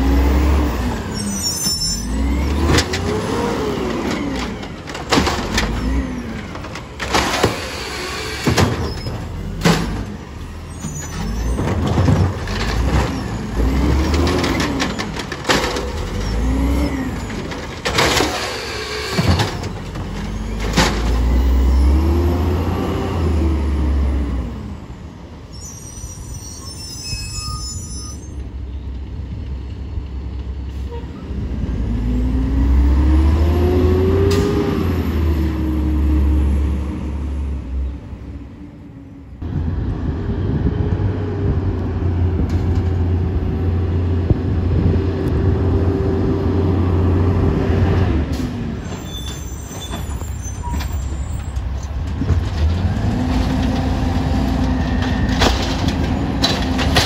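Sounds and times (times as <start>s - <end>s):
diesel engine revving: 0.0s - 10.7s, 11.3s - 25.0s, 30.7s - 48.9s, 51.9s - 57.0s.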